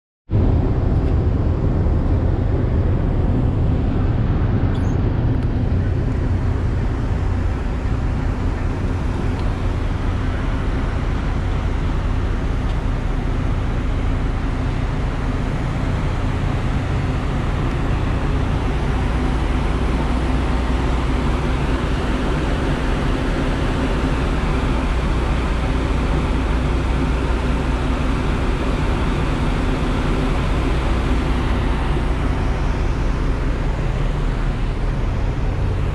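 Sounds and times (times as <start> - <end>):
ferry engines droning: 0.3 - 35.9
rushing noise: 0.3 - 35.9.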